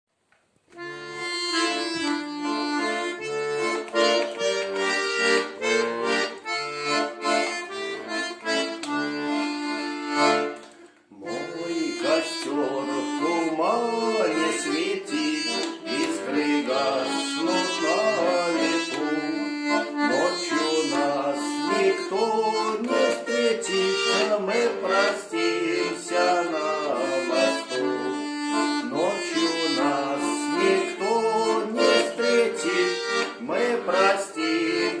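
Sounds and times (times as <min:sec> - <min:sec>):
accordion playing: 0:00.7 - 0:35.0.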